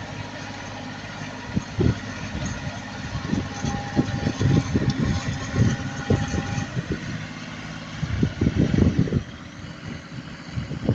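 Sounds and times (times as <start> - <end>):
milling machine engine: 0.0 - 10.7.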